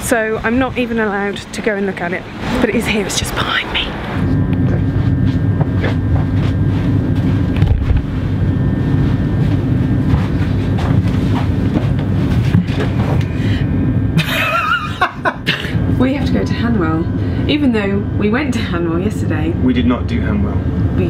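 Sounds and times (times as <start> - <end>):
faint high whine: 0.0 - 21.0
train carriage rumble: 0.0 - 21.0.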